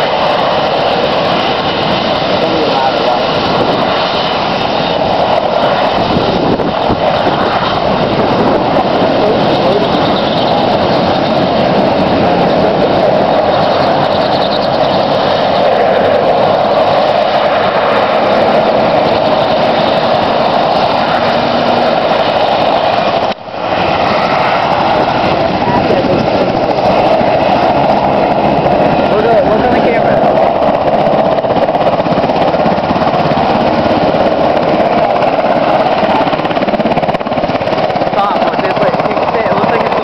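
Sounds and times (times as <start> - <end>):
helicopter turbine and rotor noise: 0.0 - 40.0.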